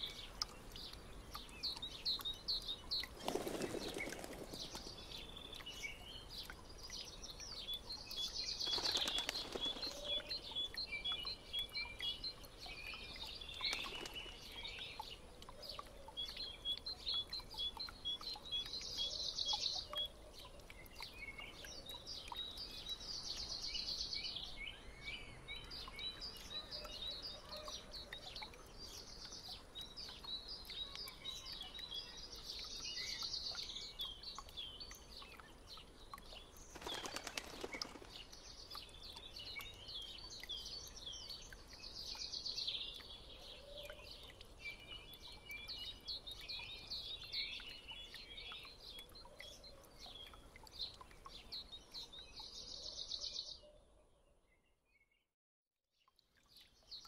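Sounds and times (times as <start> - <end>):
small songbirds chirping and trilling: 0.0 - 55.3, 56.0 - 57.0.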